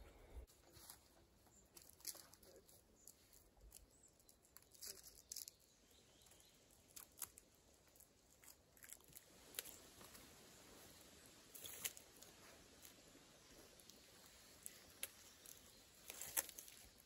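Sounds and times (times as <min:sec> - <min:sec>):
footsteps on dry twigs: 0:00.5 - 0:05.6, 0:06.2 - 0:17.0.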